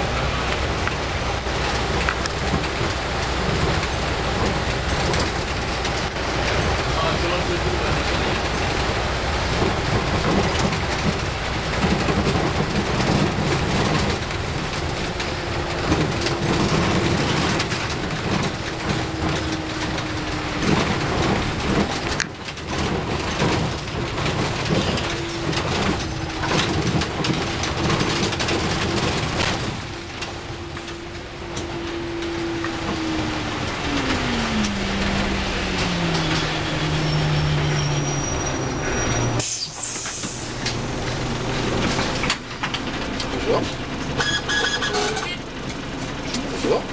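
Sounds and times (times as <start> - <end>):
engine drone: 0.0 - 46.9
tyres hissing on wet road: 0.0 - 46.9.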